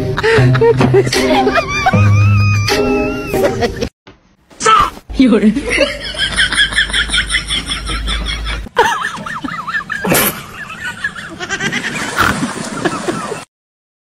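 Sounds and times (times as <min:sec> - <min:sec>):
people laughing: 0:00.2 - 0:03.9, 0:05.6 - 0:13.5.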